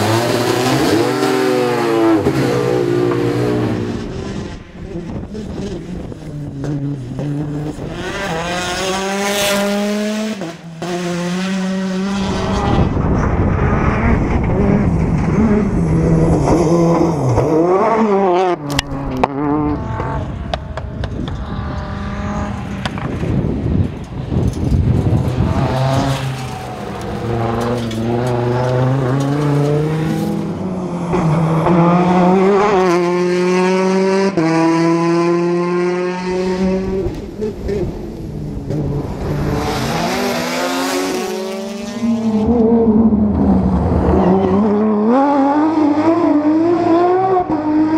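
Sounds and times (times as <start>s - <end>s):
rally car engines at full throttle: 0.0s - 47.9s.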